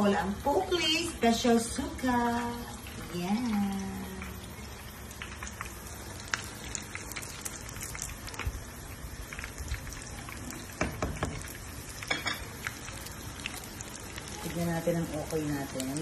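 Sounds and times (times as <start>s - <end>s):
crackling sizzle with pops: 0.0s - 16.0s.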